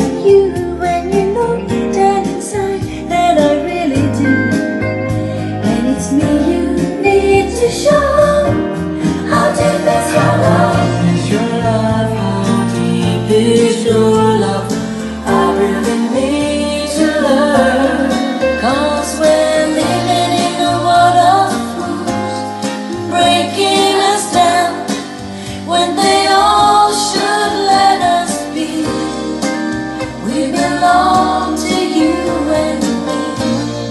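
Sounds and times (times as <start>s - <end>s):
song with singing and guitar: 0.0s - 33.9s.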